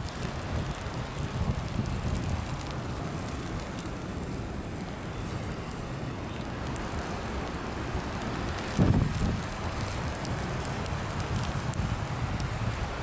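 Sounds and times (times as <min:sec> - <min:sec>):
faint crackles: 0:00.0 - 0:13.0
wind blowing over microphone: 0:00.0 - 0:13.0.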